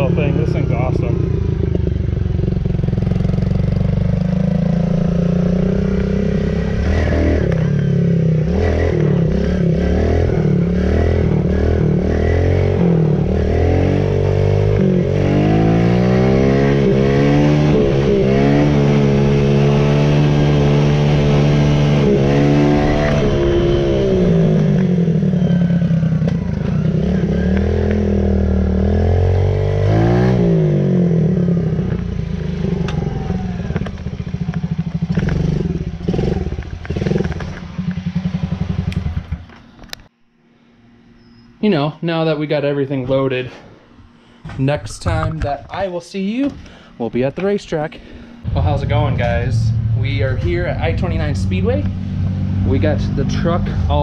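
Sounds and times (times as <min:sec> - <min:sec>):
motorbike engine revving: 0:00.0 - 0:39.8, 0:48.4 - 0:54.0.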